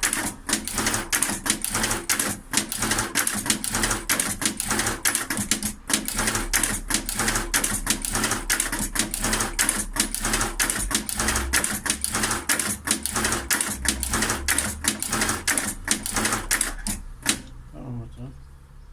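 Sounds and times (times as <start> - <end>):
machine clattering clicks: 0.0 - 17.6.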